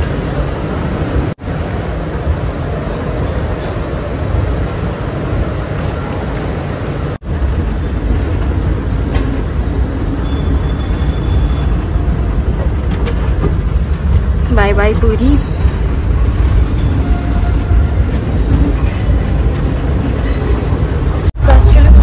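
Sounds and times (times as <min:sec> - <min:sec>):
thin high whine: 0:00.0 - 0:21.8
train wheels rumbling: 0:00.0 - 0:22.0.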